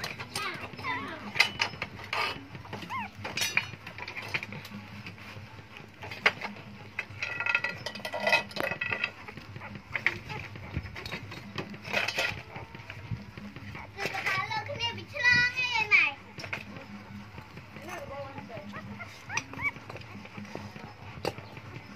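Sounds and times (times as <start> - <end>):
puppies squeaking and whimpering: 0.0 - 21.9.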